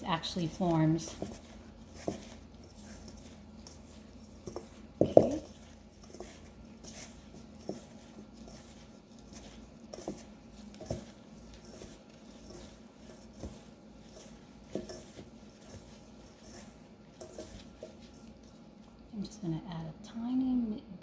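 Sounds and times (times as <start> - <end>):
hands squishing pastry dough: 0.0 - 19.2.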